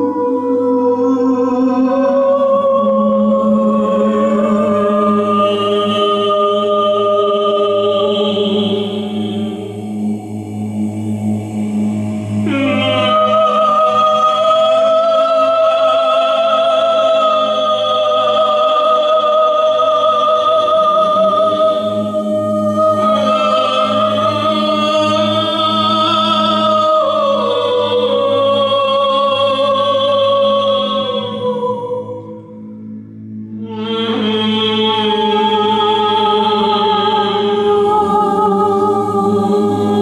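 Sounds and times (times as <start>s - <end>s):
steady low drone: 0.0s - 40.0s
wordless singing with vibrato: 0.0s - 40.0s.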